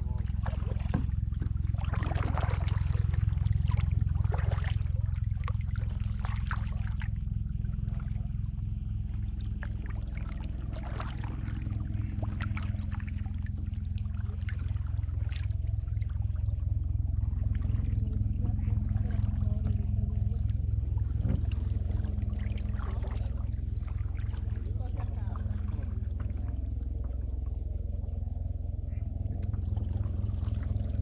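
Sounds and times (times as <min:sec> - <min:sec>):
paddle splashing water: 0:00.0 - 0:08.4, 0:09.1 - 0:27.3
steady low rumble: 0:00.0 - 0:31.0.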